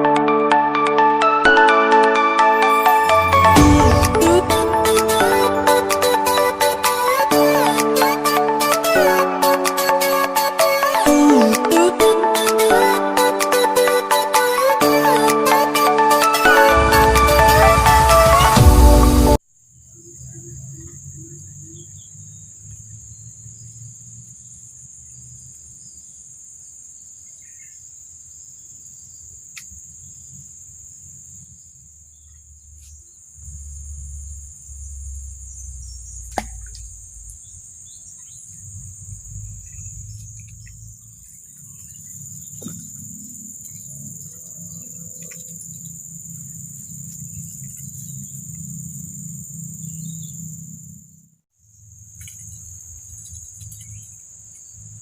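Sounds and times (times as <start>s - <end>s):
high-pitched insect chorus: 2.6s - 18.5s, 19.6s - 55.0s.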